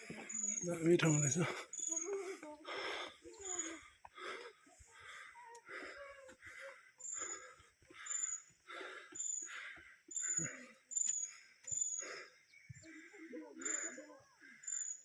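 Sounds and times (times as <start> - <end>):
person panting hard: 1.4 - 14.7.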